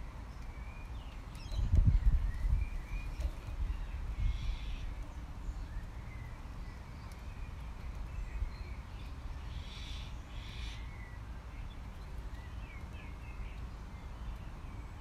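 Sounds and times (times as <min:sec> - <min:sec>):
birds chirping: 0:00.0 - 0:15.0
harsh bird calls: 0:00.0 - 0:15.0.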